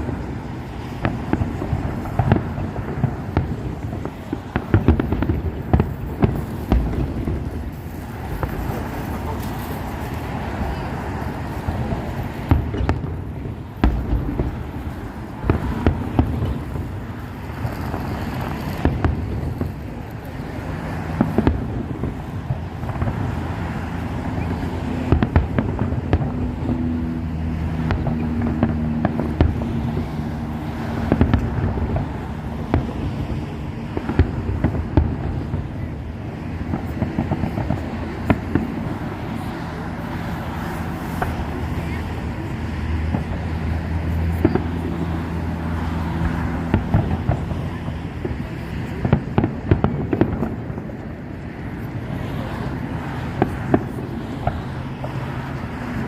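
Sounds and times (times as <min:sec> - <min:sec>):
continuous low rumble: 0:00.0 - 0:56.0
fireworks bangs and crackles: 0:00.0 - 0:56.0.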